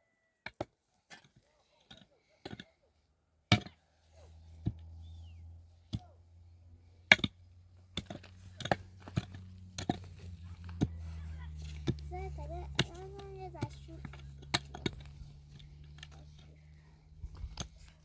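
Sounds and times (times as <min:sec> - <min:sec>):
low steady hum: 0:03.0 - 0:18.0.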